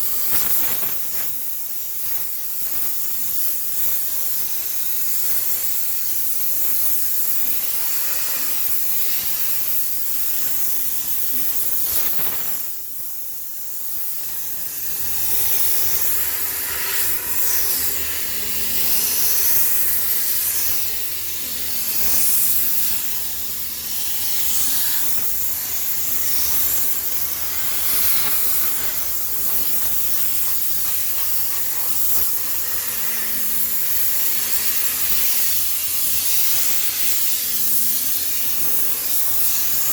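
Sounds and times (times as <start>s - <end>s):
steam sterilizer hissing: 0.0s - 39.9s.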